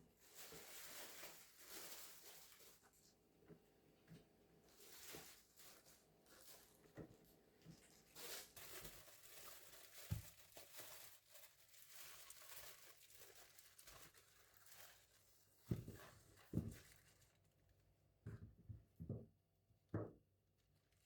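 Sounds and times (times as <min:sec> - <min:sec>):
rustling and crinkling: 0:00.1 - 0:17.9.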